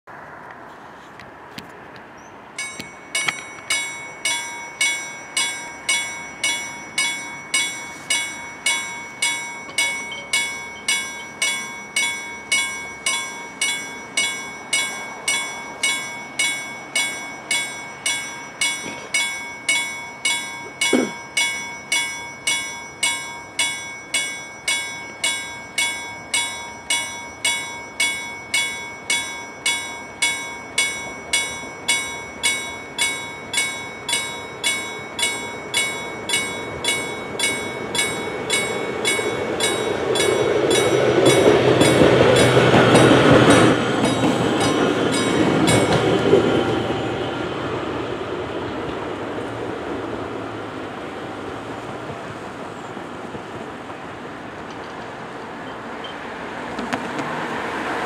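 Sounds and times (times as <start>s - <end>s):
level crossing warning bell: 2.6s - 49.9s.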